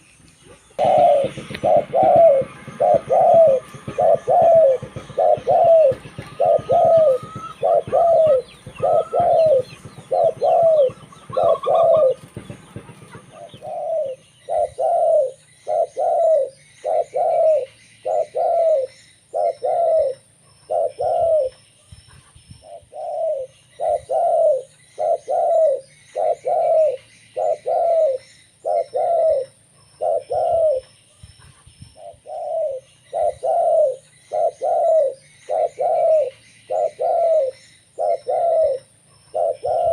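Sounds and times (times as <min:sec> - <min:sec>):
small birds chirping: 0:00.0 - 0:39.9
dove cooing: 0:00.5 - 0:21.6, 0:22.6 - 0:30.9, 0:32.0 - 0:39.9.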